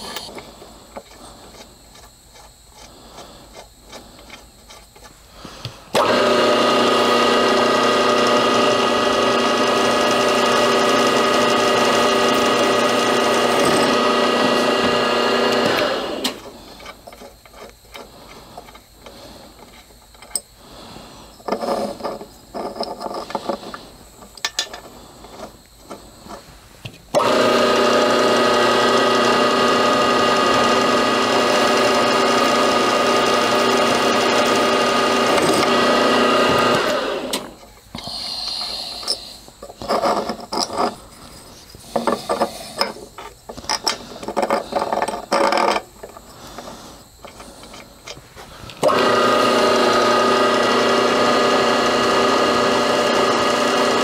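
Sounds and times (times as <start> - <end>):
machine and handling noises: 0.0 - 54.0
milling machine spindle humming: 0.0 - 54.0.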